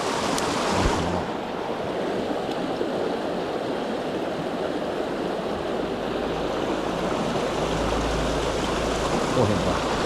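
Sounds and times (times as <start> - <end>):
stream rushing over rocks: 0.0 - 10.0.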